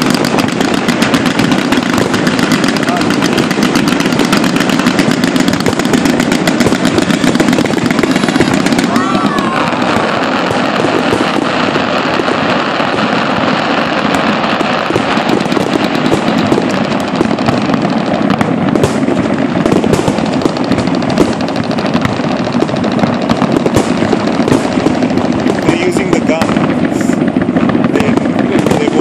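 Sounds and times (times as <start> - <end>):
fireworks popping and crackling: 0.0 - 29.0.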